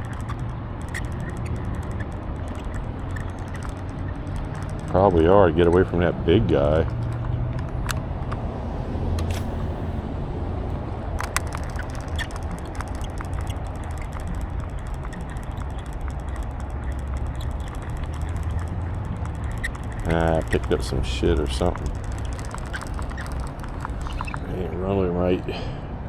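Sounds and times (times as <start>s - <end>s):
fishing reel gears ticking: 0.0s - 8.5s, 11.1s - 24.9s
steady low rumble: 0.0s - 26.0s.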